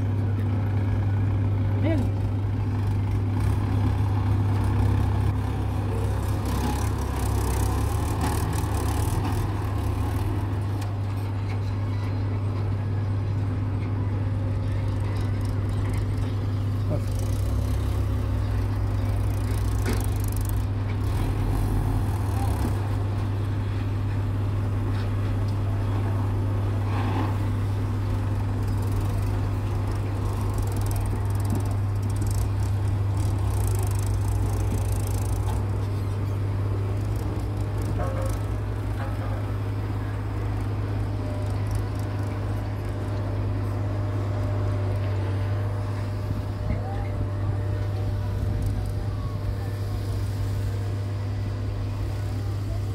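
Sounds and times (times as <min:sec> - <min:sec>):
tractor diesel engine drone: 0:00.0 - 0:52.9.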